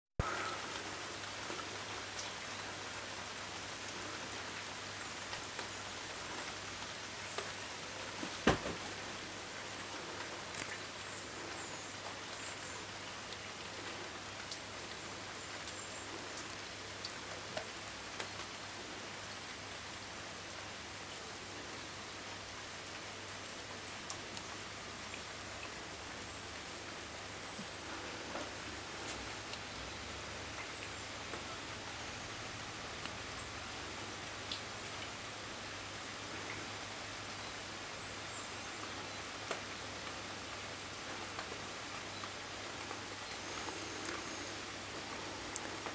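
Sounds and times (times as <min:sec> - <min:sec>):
steady rain hiss: 0:00.2 - 0:45.9.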